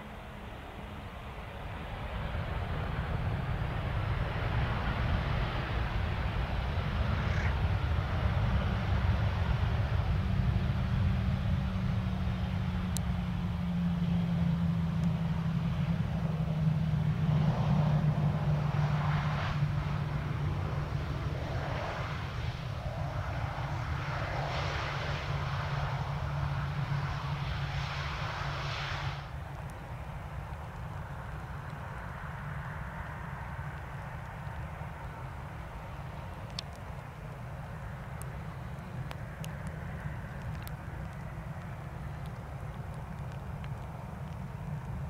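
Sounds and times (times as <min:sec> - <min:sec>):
jet engines rumbling: 0:00.0 - 0:45.0.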